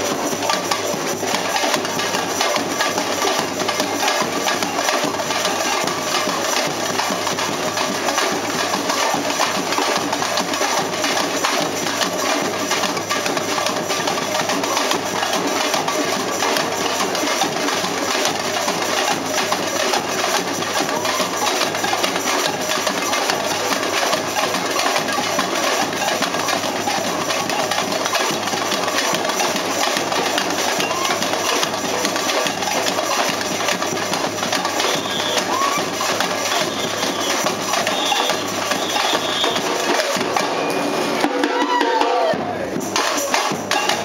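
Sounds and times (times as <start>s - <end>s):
samba music with fast drumming: 0.0s - 44.0s.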